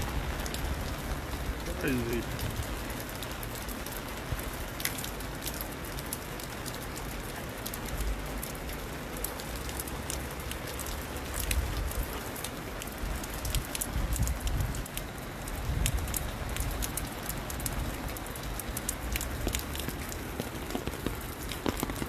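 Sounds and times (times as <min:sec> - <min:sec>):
heavy rain falling: 0:00.0 - 0:22.0
raindrops ticking close: 0:00.0 - 0:22.0.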